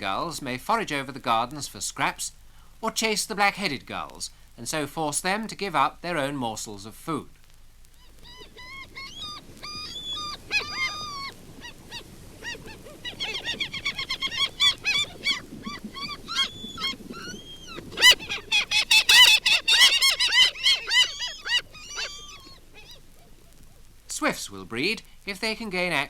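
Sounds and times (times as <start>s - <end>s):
gulls calling: 2.8s - 26.0s.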